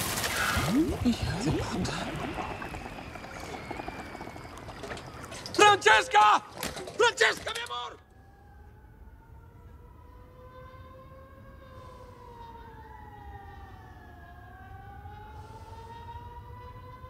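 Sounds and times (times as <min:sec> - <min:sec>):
emergency sirens wailing: 0:00.1 - 0:17.0.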